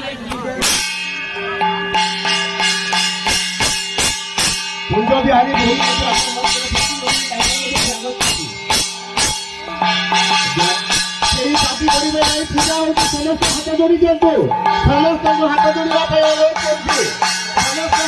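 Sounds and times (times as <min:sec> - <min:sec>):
quick percussion beat: 0:00.0 - 0:18.0.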